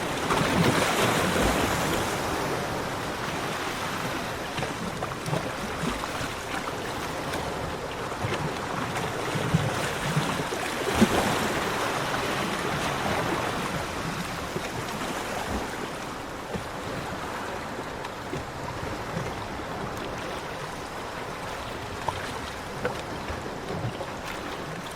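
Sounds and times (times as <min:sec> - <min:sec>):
sea waves washing onto beach: 0:00.0 - 0:24.9.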